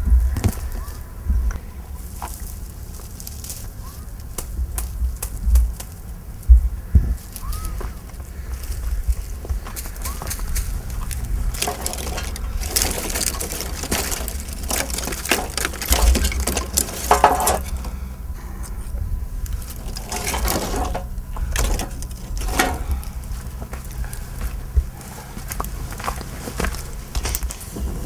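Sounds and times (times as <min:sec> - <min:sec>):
low rumble: 0:00.0 - 0:28.0
twigs rustling and snapping: 0:00.3 - 0:28.0.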